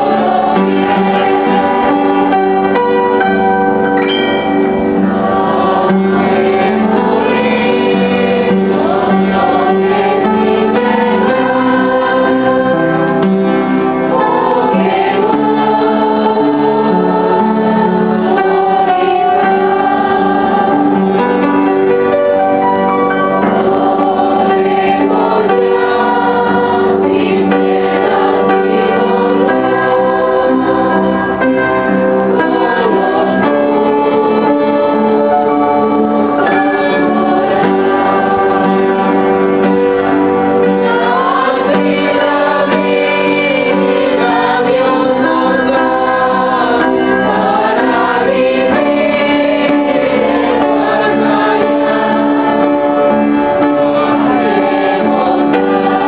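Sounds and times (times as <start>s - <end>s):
choir singing a hymn: 0.0s - 56.0s
upright piano: 0.0s - 56.0s.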